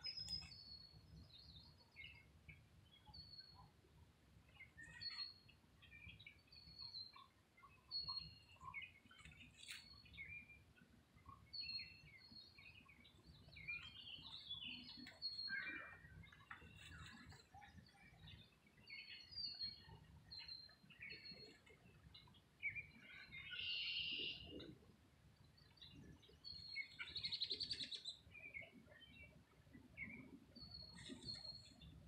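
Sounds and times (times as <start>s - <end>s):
small birds chirping: 0.0s - 3.7s, 4.4s - 32.0s.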